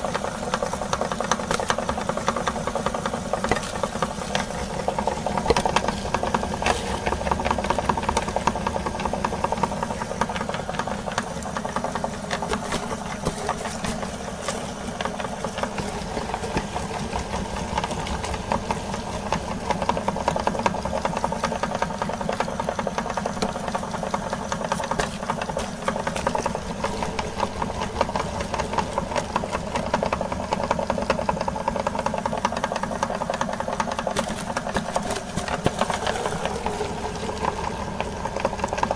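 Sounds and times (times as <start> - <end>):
electric meat grinder motor hum: 0.0 - 38.9
fast dense grinding rattle: 0.0 - 38.9.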